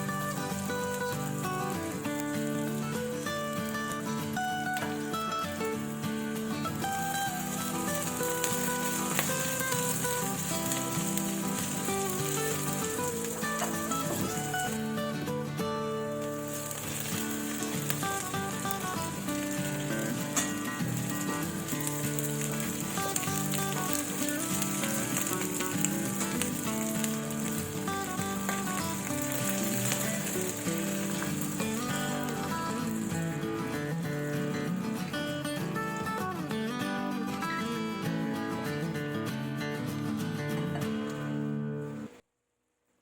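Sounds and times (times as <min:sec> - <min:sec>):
food sizzling in a pan: 0:00.0 - 0:38.7
background music: 0:00.0 - 0:39.5.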